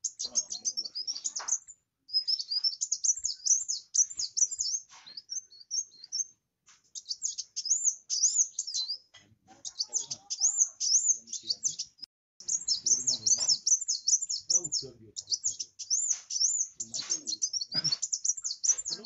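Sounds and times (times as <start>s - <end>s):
sunbird singing high twittering: 0.0s - 19.0s.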